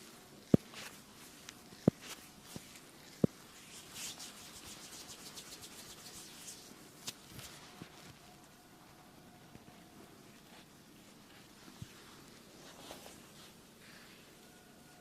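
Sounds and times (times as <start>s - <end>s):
scratching strokes: 0.0s - 8.6s, 10.3s - 15.0s.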